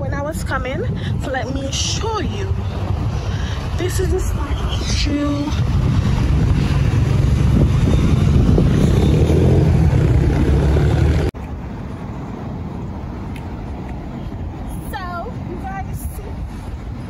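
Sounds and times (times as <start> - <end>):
loud low outdoor rumble: 0.0 - 17.0
outdoor background noise: 0.0 - 17.0.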